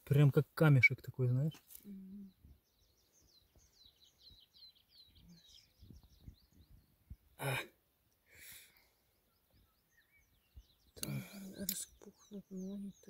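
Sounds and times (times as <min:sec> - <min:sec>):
small bird chirping: 0:01.4 - 0:07.4, 0:08.0 - 0:13.0.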